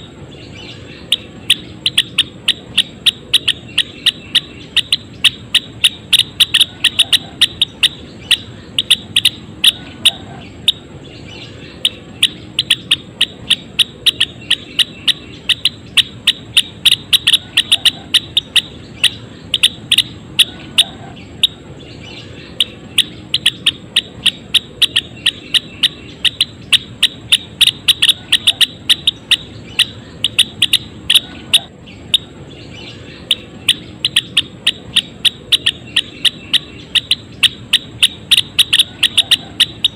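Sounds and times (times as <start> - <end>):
songbird high chip notes: 0.0 - 39.9.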